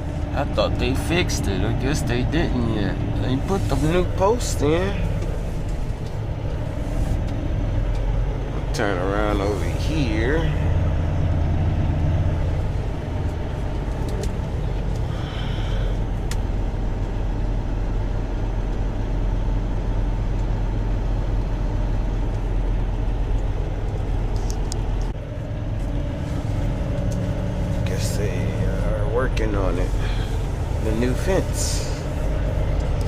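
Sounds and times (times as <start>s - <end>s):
truck diesel engine running: 0.0s - 33.0s.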